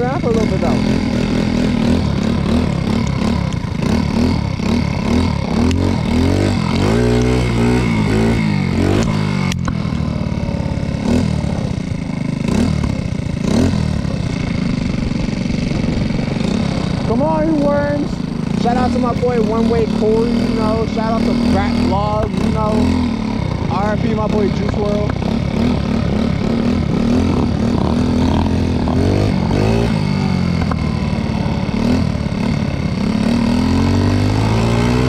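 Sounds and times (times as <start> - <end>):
moped engine revving: 0.0 - 35.0.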